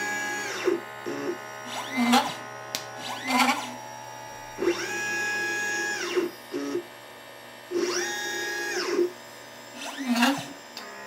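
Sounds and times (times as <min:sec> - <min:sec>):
stepper motors whining: 0:00.0 - 0:06.9, 0:07.7 - 0:11.0.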